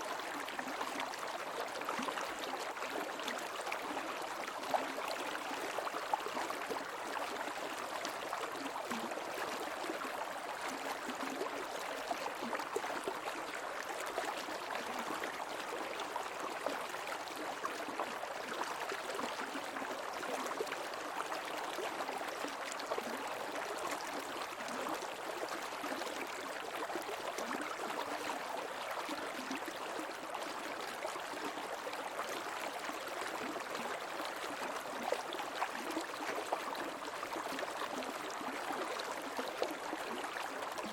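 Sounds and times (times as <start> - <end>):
creek water gurgling over rocks: 0.0 - 40.9.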